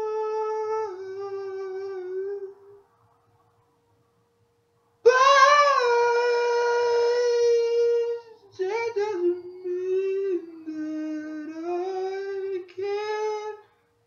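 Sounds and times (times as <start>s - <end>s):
high voice singing wordless tune: 0.0s - 2.8s, 5.0s - 13.7s.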